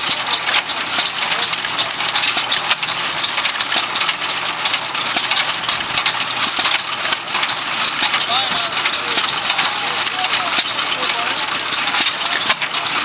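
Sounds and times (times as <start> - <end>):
gas engine clicking and knocking: 0.0 - 13.0.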